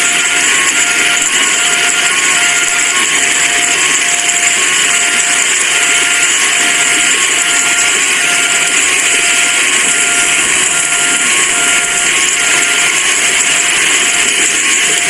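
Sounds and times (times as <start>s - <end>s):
heavy rain hissing: 0.0s - 15.0s
level crossing two-tone alarm: 0.0s - 15.0s.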